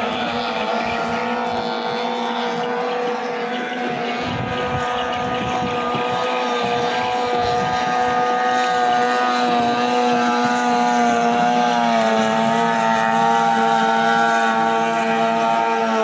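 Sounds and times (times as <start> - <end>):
outboard motors droning: 0.0 - 16.0.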